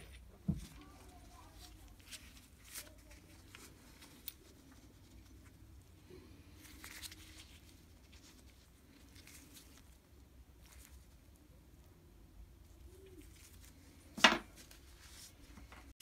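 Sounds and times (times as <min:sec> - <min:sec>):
scratchy rustle: 0:00.0 - 0:11.5, 0:12.6 - 0:15.9
faint low hum: 0:00.0 - 0:15.9.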